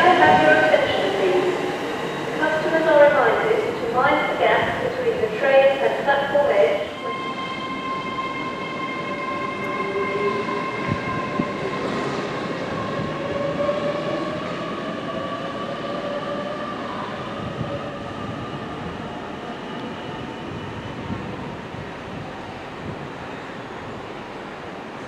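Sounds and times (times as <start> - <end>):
train wheel and rail rumble: 0.0 - 25.0
train whine: 0.0 - 25.0.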